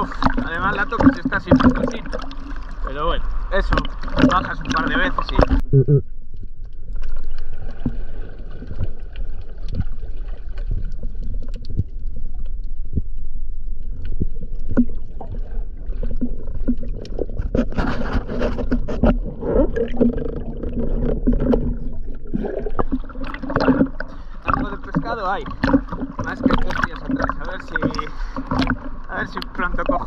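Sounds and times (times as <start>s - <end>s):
rush of water and bubbles: 0.0s - 30.0s
underwater clicks and ticks: 0.0s - 30.0s
underwater rumble: 0.0s - 30.0s.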